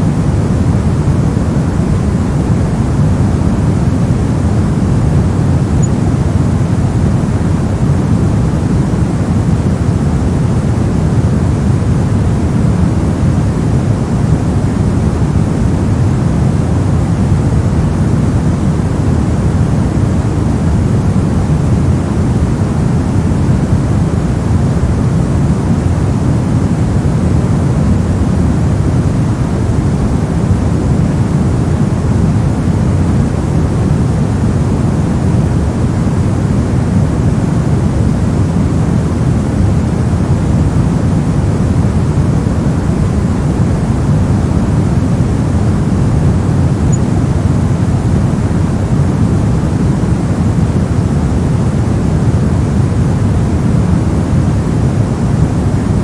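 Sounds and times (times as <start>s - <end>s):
steady low-heavy generated noise: 0.0s - 56.0s.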